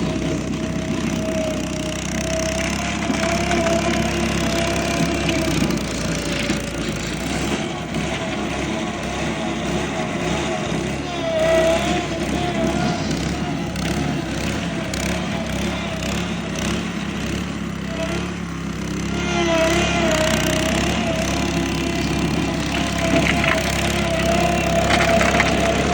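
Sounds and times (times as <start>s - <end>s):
small petrol engine running: 0.0s - 25.9s.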